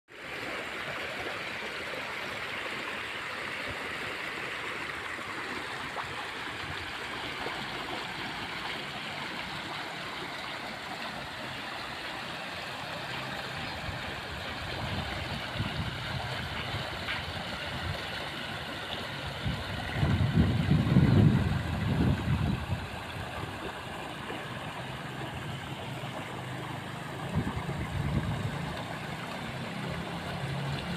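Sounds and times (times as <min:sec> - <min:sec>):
water rushing along a ditch: 0:00.1 - 0:30.9.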